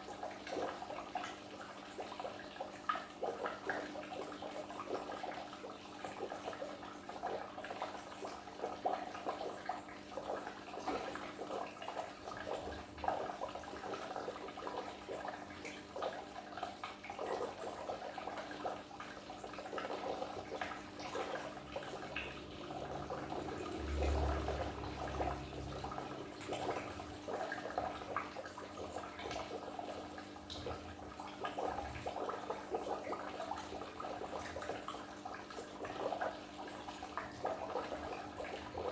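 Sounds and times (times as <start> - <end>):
aquarium water bubbling: 0.0 - 38.9
pump motor hum: 0.0 - 38.9.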